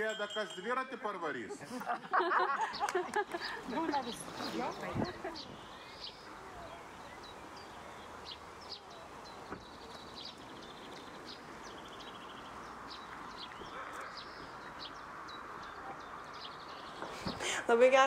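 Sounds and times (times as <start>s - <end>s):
outdoor background noise: 0.0s - 18.0s
small birds chirping: 2.6s - 18.0s.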